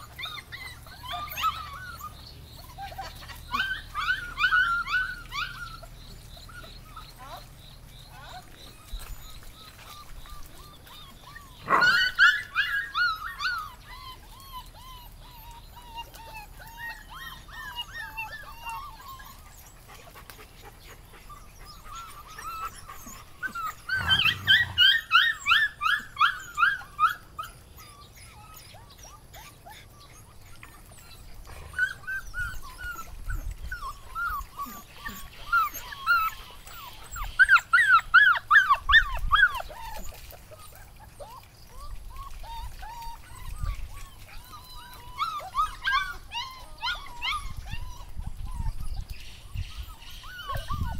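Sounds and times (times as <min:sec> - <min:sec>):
puppies yelping and whining: 0:00.0 - 0:50.9.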